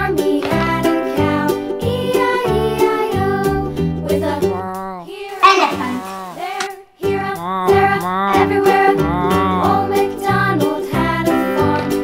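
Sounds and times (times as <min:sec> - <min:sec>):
upbeat children's music with singing: 0:00.0 - 0:12.0.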